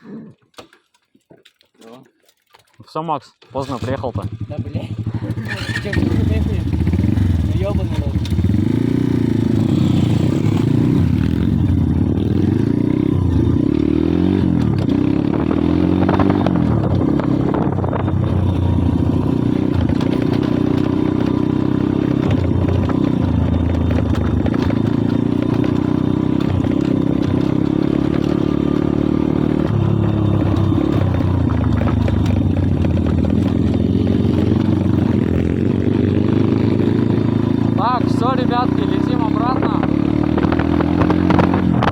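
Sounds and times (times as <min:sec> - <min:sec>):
motorbike engine revving: 0:03.5 - 0:41.9.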